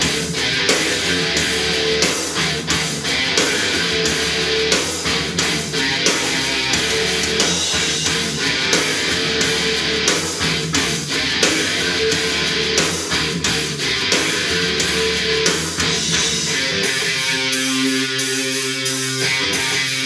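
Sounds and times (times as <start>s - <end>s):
rock song through speaker: 0.0s - 20.0s.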